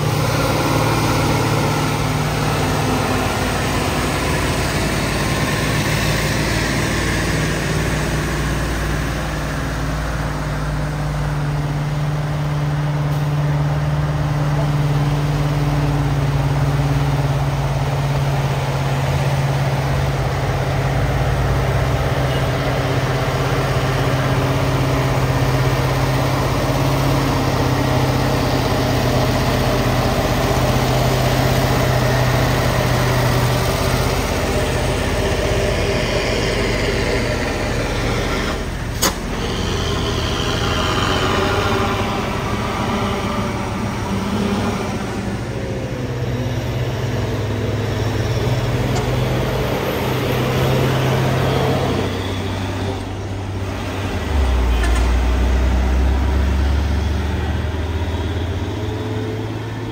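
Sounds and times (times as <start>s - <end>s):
diesel truck engine droning: 0.0s - 59.9s.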